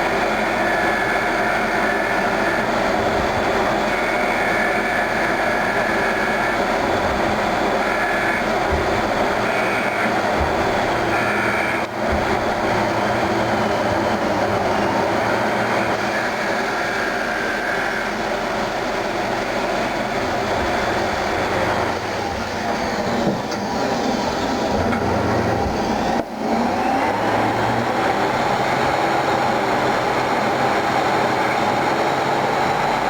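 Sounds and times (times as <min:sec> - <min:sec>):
lathe machining metal: 0:00.0 - 0:33.0.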